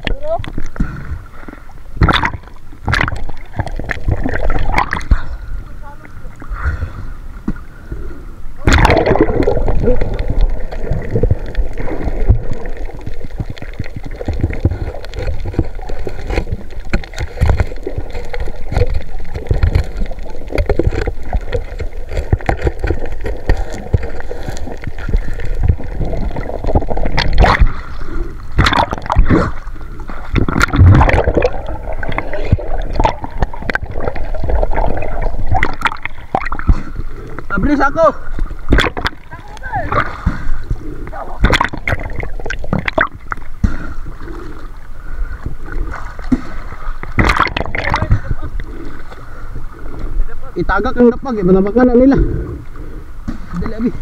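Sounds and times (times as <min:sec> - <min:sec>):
sea water gurgling and sloshing: 0:00.0 - 0:54.0
water splashes: 0:00.0 - 0:54.0.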